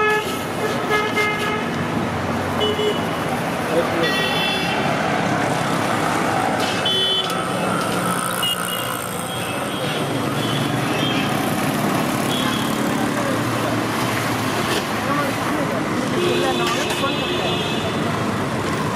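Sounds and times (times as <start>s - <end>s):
street traffic: 0.0s - 18.9s.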